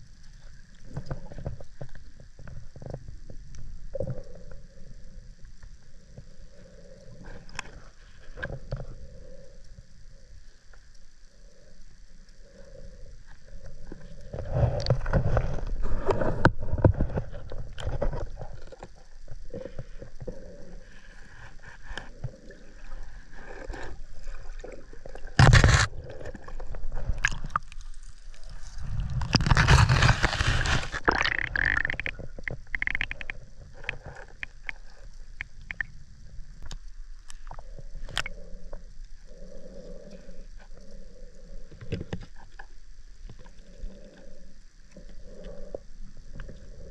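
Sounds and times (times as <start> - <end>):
underwater scraping and clicking: 0.2 - 46.9.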